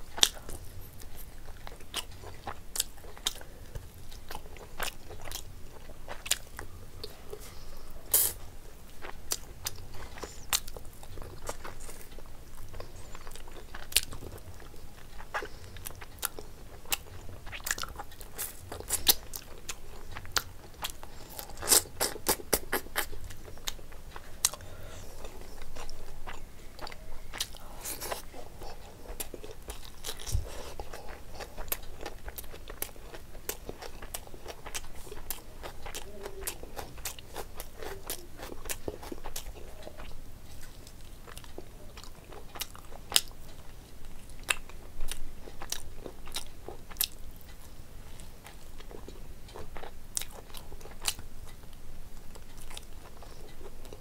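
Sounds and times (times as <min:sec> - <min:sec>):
chewing with wet mouth clicks: 0:00.1 - 0:07.4, 0:09.0 - 0:47.8, 0:48.4 - 0:54.0.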